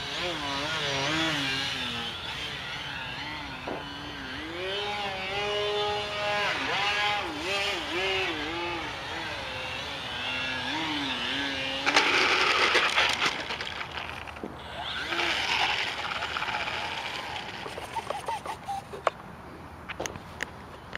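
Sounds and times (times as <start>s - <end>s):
model plane motor whine: 0.0s - 18.5s.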